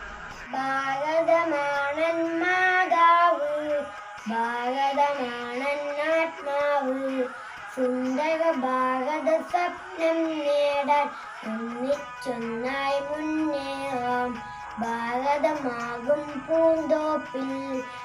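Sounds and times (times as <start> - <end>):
boy singing unaccompanied: 0.4 - 18.0.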